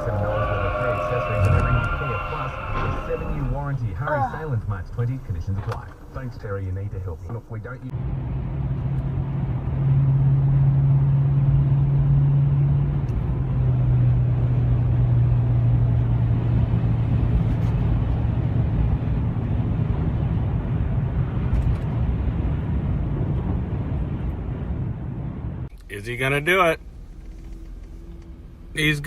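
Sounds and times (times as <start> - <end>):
vehicle engine drone: 0.0 - 25.9
road noise inside vehicle: 0.0 - 29.0.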